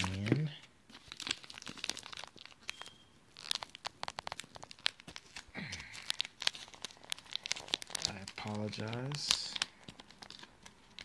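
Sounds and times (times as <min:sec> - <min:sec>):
plastic packaging crinkling and tearing: 0:00.0 - 0:11.0.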